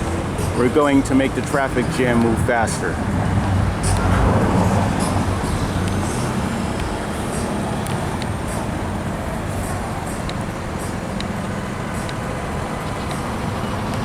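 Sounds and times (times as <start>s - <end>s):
slow road traffic hum: 0.0s - 14.0s
vehicle passing by: 0.0s - 14.0s.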